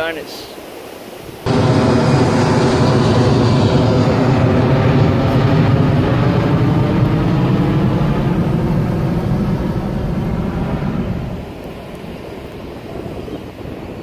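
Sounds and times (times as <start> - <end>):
jet airliner passing overhead: 1.4 - 14.0.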